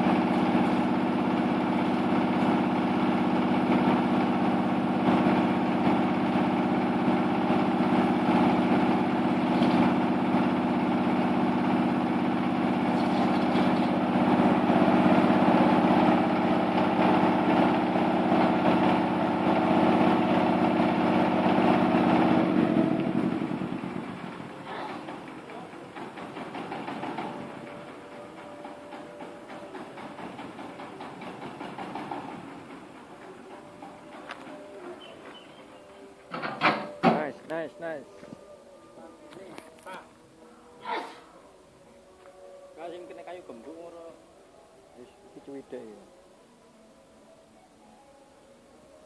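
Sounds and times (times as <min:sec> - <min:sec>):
wood crusher machine humming: 0:00.0 - 0:40.9.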